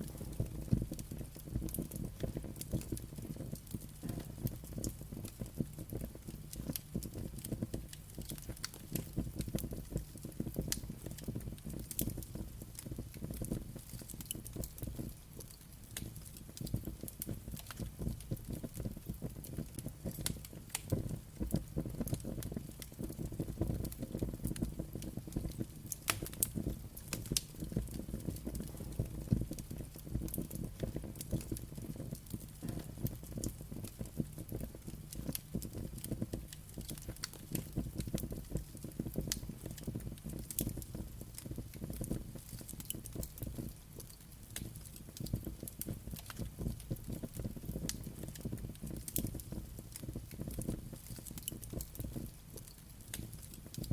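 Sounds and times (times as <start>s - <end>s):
fire popping and snapping: 0.0s - 53.9s
wood fire crackling: 0.0s - 53.9s.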